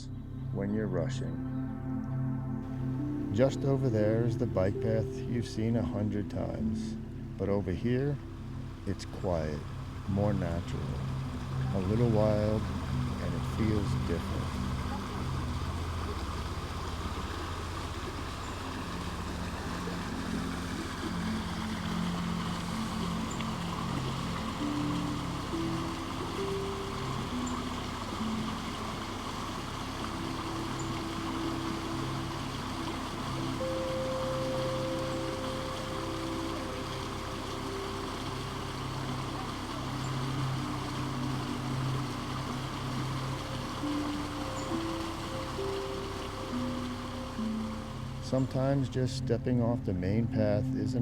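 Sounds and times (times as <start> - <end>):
creek water flowing: 0.0 - 51.0
soft background music: 0.0 - 51.0.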